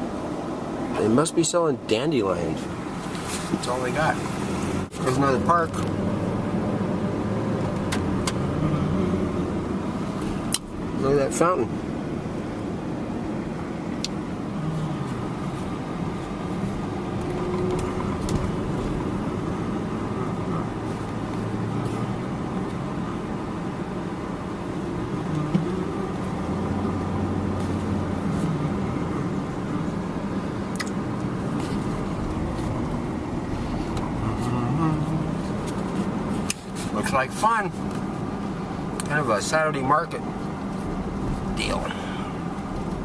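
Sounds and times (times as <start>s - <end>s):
car engine and road hum: 0.0s - 43.0s.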